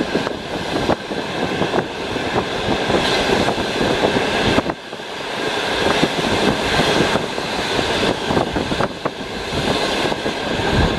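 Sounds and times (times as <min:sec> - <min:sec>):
train wheels rumbling on rails: 0:00.0 - 0:10.9.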